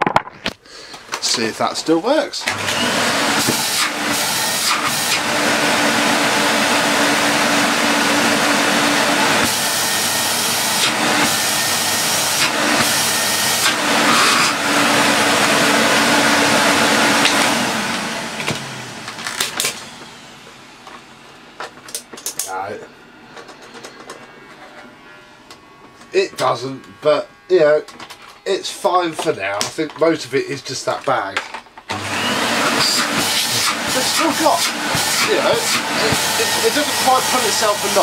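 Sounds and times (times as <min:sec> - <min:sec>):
vacuum cleaner running: 0:01.1 - 0:31.0, 0:31.8 - 0:38.0.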